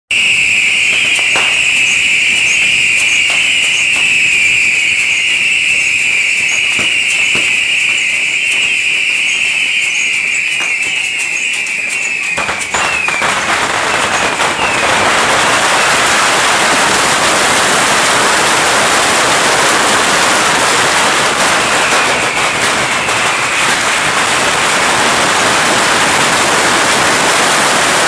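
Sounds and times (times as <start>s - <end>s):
shrill screech of rockets: 0.1s - 28.0s
sharp cracks: 0.2s - 28.0s.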